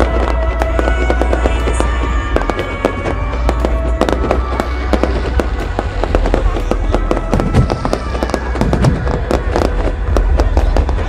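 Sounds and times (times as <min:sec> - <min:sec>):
fireworks bangs and crackles: 0:00.0 - 0:11.0
loud music with heavy bass: 0:00.0 - 0:11.0.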